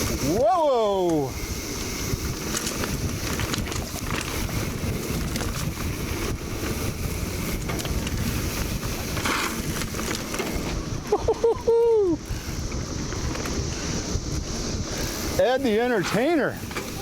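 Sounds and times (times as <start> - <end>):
bike clicks: 0.0 - 17.0
cicadas buzzing: 0.0 - 17.0
mountain bike rumble and rattle: 0.0 - 17.0
wind on microphone: 0.0 - 17.0.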